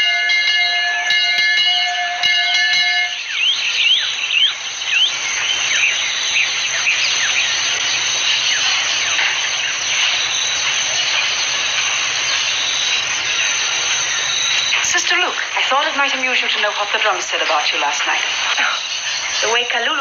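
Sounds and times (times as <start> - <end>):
birds chirping: 0.0 - 20.0
insects hissing: 0.0 - 20.0.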